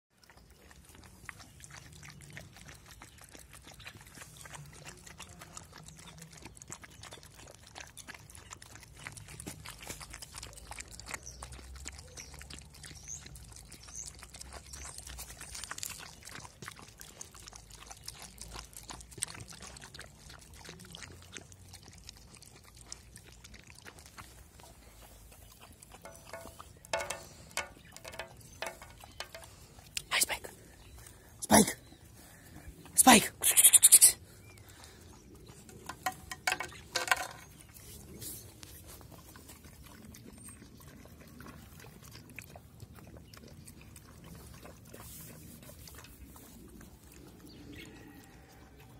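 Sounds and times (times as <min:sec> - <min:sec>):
puppies licking food: 0:00.1 - 0:48.9.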